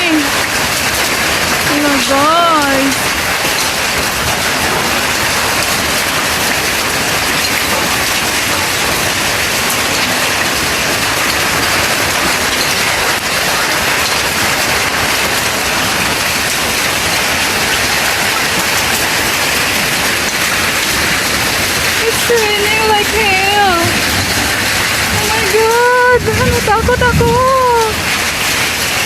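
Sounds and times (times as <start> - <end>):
heavy rain and hail: 0.0 - 29.0.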